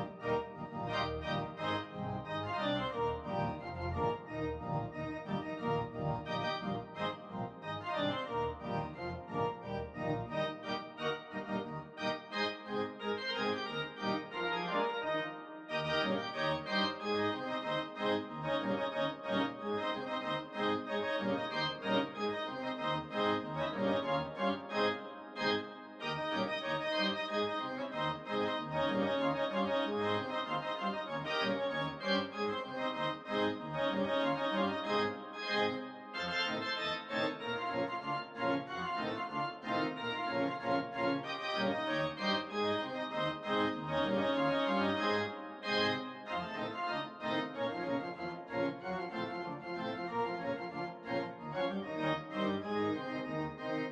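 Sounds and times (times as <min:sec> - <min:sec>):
instrumental music score: 0:00.0 - 0:53.9.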